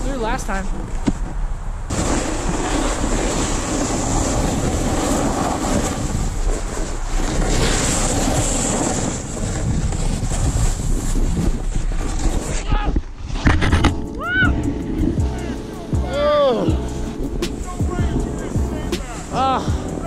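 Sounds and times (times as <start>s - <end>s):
wind buffeting microphone: 0.0s - 20.0s
snowboard scraping over snow: 1.9s - 20.0s.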